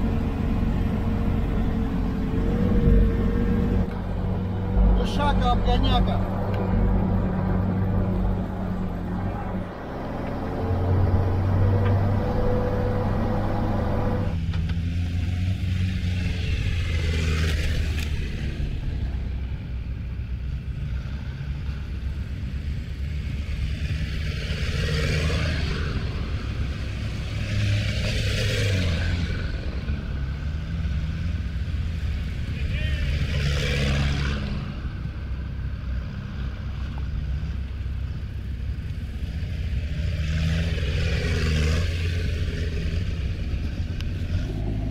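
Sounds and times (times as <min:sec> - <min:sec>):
all-terrain vehicle engine: 0:00.0 - 0:44.9.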